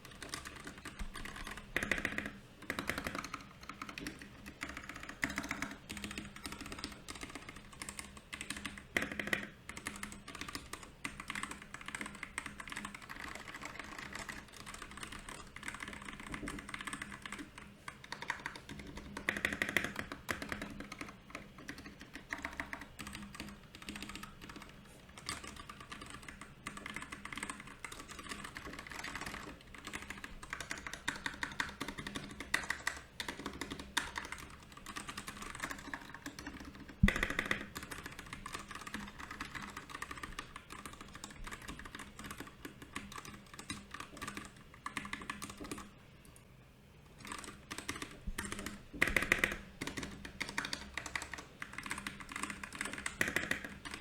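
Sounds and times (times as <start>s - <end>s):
mechanical keyboard typing: 0.0s - 45.9s, 47.2s - 54.0s.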